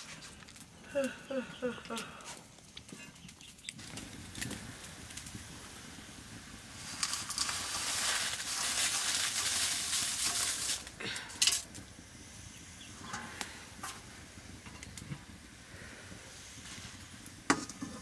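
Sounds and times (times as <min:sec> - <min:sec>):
noodles sizzling in hot oil: 0:03.2 - 0:18.0.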